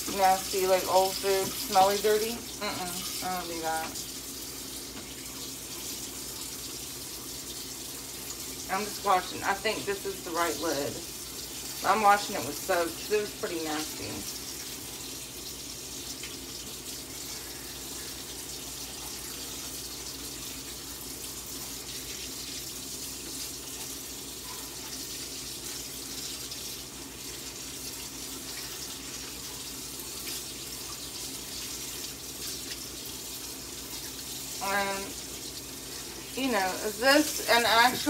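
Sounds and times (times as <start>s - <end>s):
faucet running into sink: 0.0s - 38.0s.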